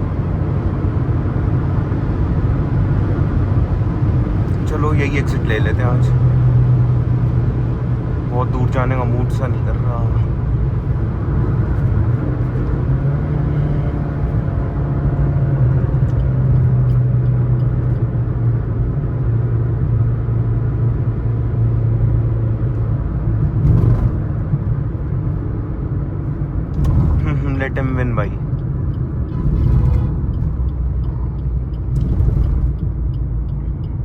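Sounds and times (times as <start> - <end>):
car engine drone: 0.0 - 34.0
tyre and road noise: 0.0 - 34.0.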